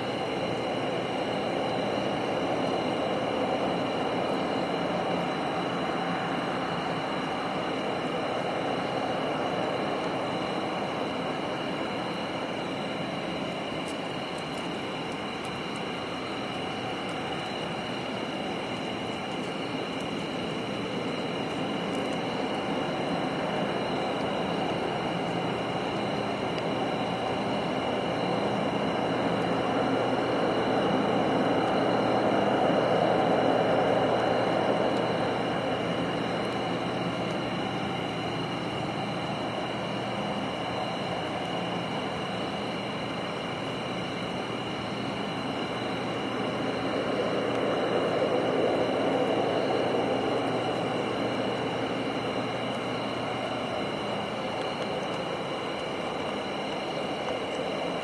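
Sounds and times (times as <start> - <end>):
steady whirring hum: 0.0 - 58.0.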